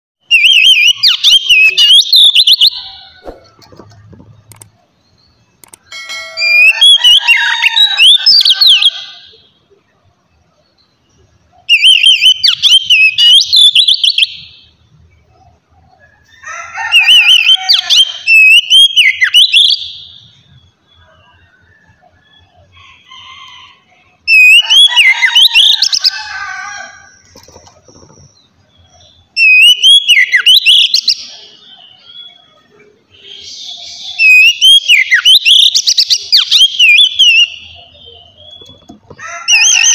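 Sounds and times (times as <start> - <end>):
magpie-robin singing: 0.2 - 2.9, 4.1 - 9.5, 10.3 - 15.6, 16.9 - 21.5, 24.2 - 26.2, 27.1 - 39.9.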